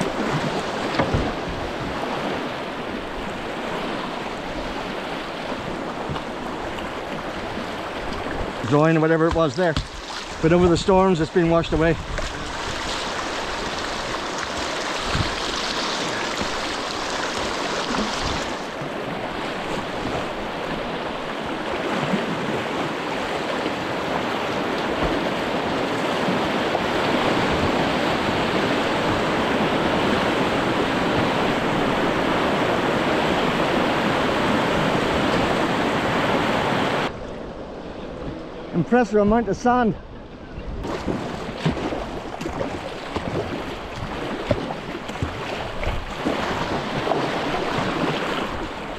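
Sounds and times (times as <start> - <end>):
white water rushing and splashing: 0.0 - 37.3, 40.8 - 48.9.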